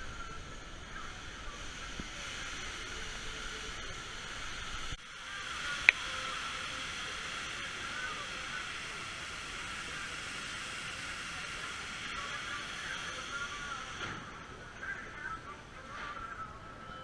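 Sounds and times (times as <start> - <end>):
steady hissing background noise: 0.0 - 17.0.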